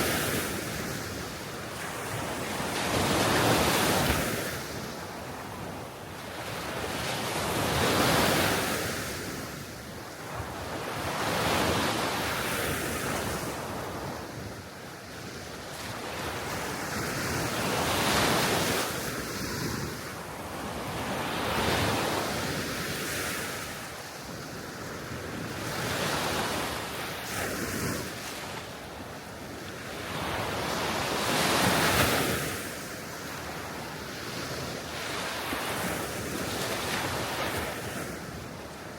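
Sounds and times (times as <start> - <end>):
small waves washing ashore: 0.0 - 38.9.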